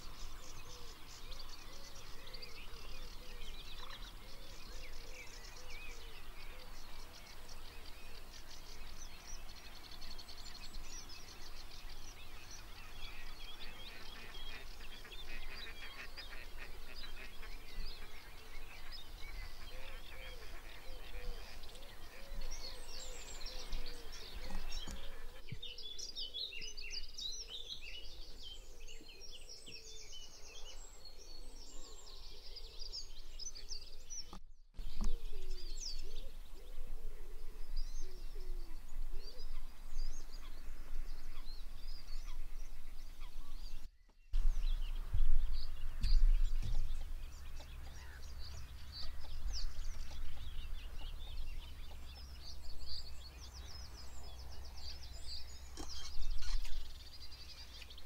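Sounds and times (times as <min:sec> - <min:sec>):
lower wavering bird calls: 0:00.0 - 0:58.0
songbirds singing and chirping: 0:00.0 - 0:58.0.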